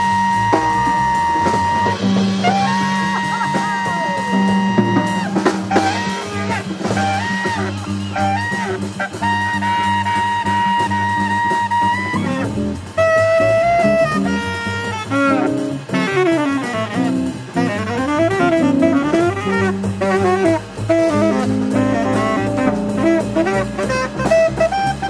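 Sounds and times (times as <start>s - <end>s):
double bass: 0.0s - 25.0s
drum kit: 0.0s - 25.0s
jazz saxophone solo: 0.0s - 25.0s.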